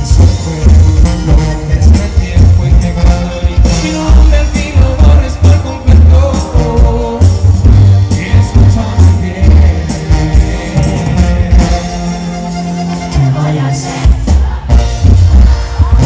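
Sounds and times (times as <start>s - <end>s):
accordion: 0.0s - 16.0s
drums: 0.0s - 16.0s
guitar: 0.0s - 16.0s
man singing: 0.0s - 16.0s.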